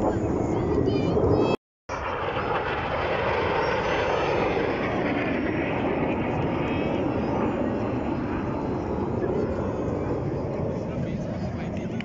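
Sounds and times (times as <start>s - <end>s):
jet aircraft flying over: 0.0s - 12.0s.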